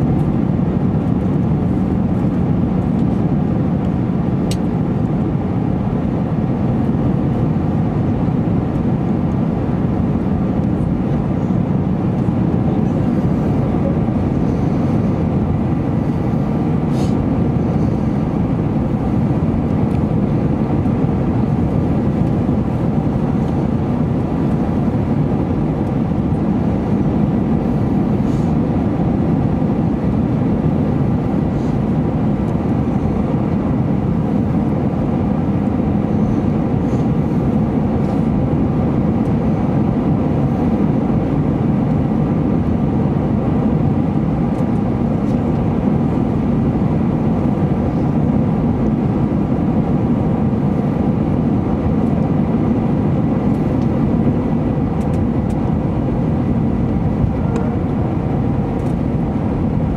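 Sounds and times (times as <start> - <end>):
aircraft cabin engine drone: 0.0 - 59.9
faint steady whine: 0.0 - 59.9.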